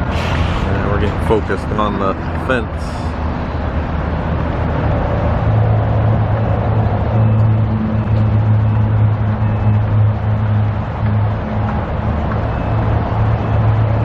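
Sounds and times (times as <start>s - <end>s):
road traffic: 0.0s - 14.0s
steady low hum: 0.0s - 14.0s
vehicle engine running: 0.0s - 14.0s.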